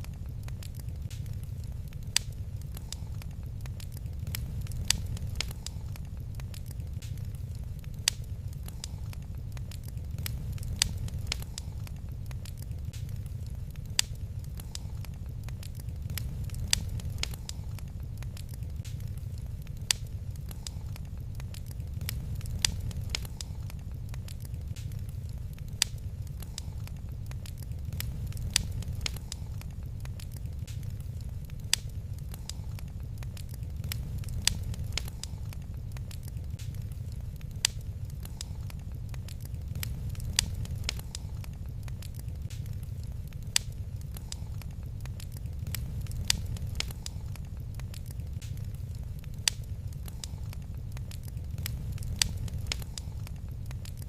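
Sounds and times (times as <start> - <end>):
sharp popping of fire: 0.0 - 54.0
wood fire crackling: 0.0 - 54.0.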